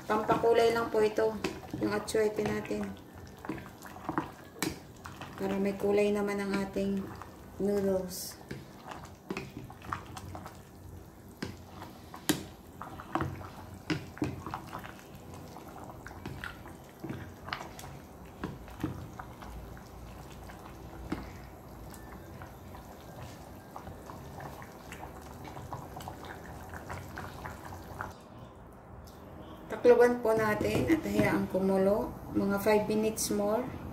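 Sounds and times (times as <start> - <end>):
broth dripping and sloshing: 0.0 - 7.6, 8.2 - 28.2.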